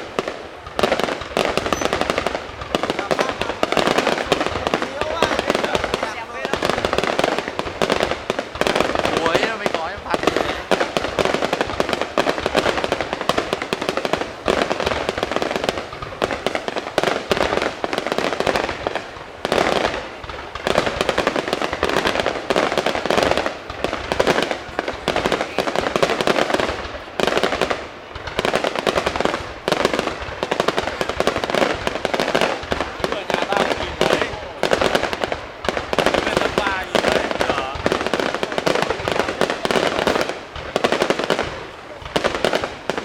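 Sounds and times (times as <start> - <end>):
fireworks bursting and crackling: 0.0 - 43.0.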